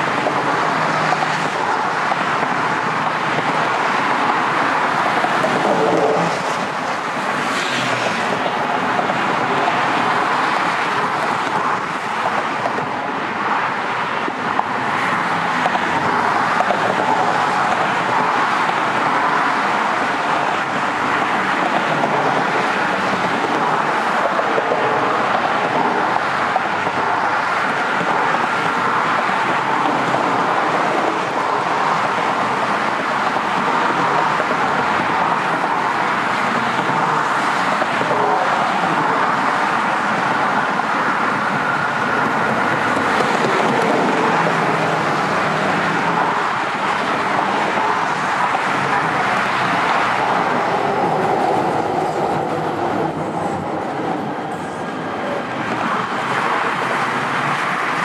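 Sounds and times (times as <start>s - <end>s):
freeway traffic rush: 0.0s - 58.0s.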